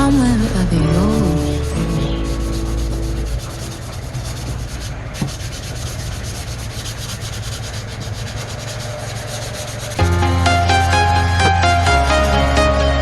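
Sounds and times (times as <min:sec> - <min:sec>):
sanding scratching rub: 0:00.9 - 0:13.0.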